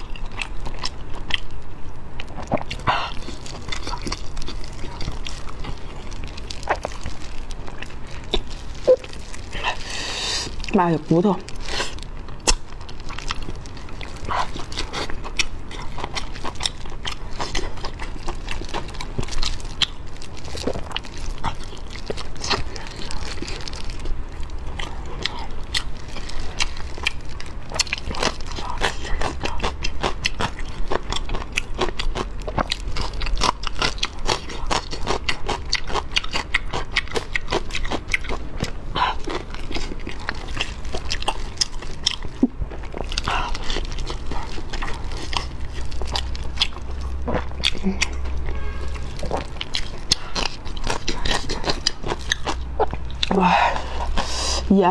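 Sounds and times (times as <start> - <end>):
wet chewing and lip smacking: 0.0 - 54.7.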